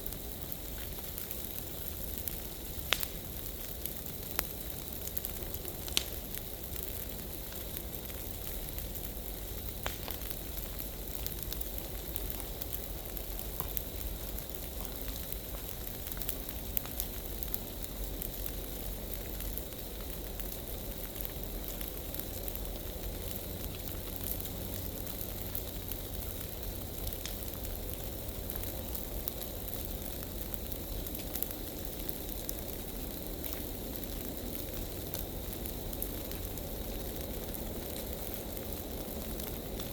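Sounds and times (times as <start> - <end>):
burning leaves crackling: 0.0 - 39.9.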